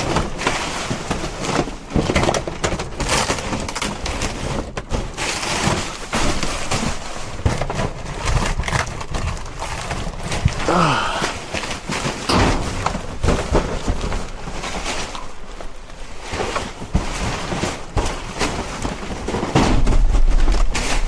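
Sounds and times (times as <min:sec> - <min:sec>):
trash crunching and rustling: 0:00.0 - 0:21.0.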